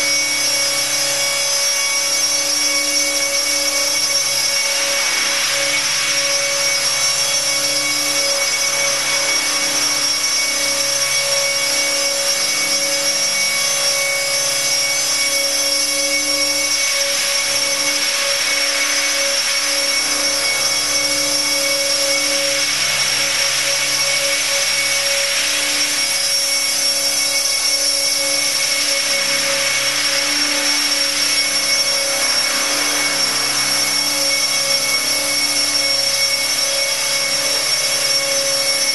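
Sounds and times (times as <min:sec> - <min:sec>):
electric motor high whine: 0:00.0 - 0:38.9.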